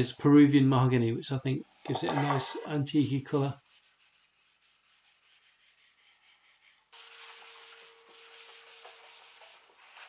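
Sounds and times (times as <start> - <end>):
cloth rubbing on wood: 1.7 - 10.0.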